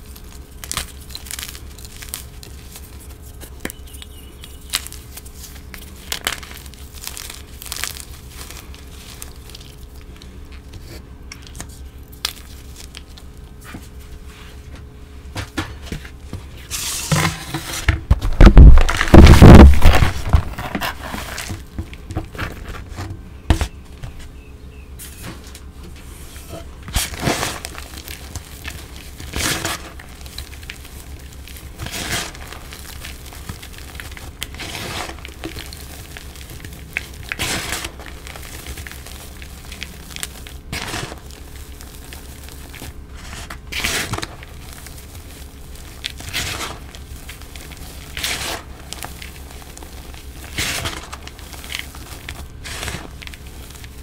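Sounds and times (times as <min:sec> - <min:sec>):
hands crushing damp chalk: 0:00.0 - 0:14.0, 0:15.4 - 0:24.3, 0:26.8 - 0:54.0.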